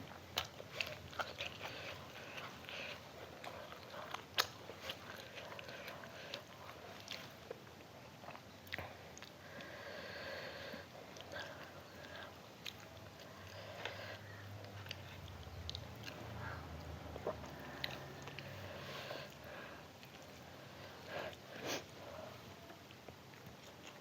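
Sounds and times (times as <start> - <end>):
chewing food: 0.0 - 24.0.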